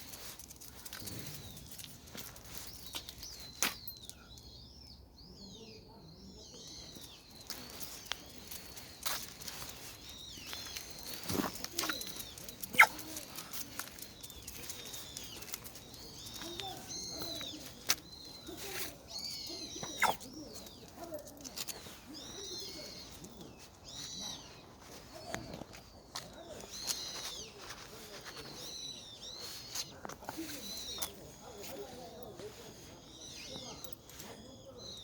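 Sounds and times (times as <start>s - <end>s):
faint voices: 0.0s - 4.5s, 5.2s - 35.0s
small birds chirping: 0.0s - 35.0s.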